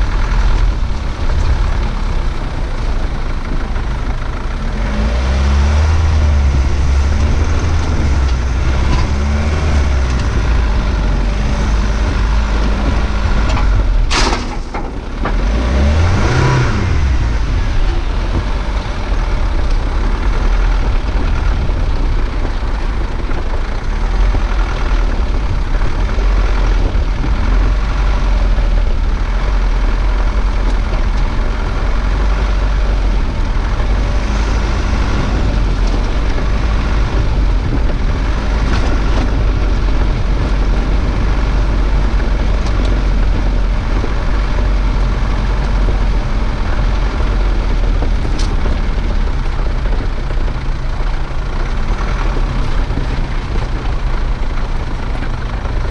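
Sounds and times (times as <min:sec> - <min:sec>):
vehicle driving over loose gravel: 0:00.0 - 0:55.9.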